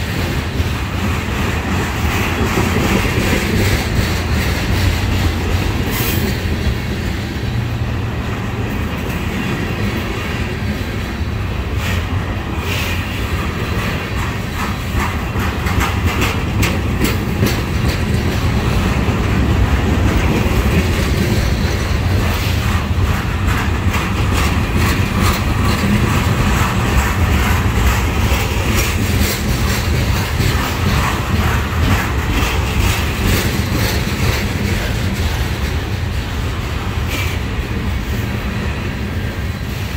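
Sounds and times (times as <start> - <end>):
wheels clacking over track: 0.0 - 39.4
freight train rumbling: 0.0 - 39.9.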